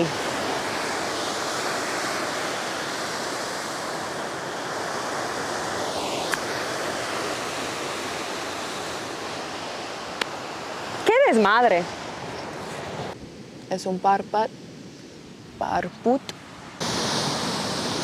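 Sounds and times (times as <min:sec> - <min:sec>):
ocean surf on rocks: 0:00.0 - 0:18.0.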